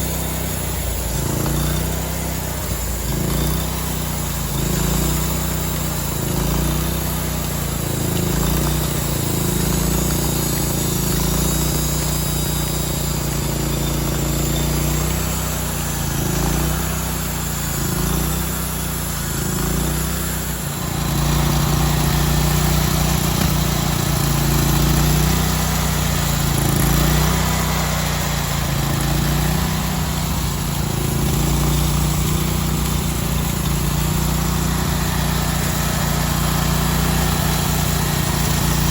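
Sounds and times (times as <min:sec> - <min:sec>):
sawmill engine under load: 0:00.0 - 0:38.9.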